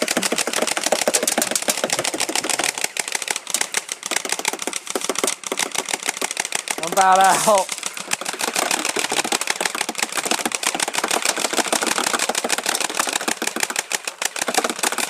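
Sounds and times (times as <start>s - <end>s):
airsoft rifle full-auto burst: 0.0s - 15.0s.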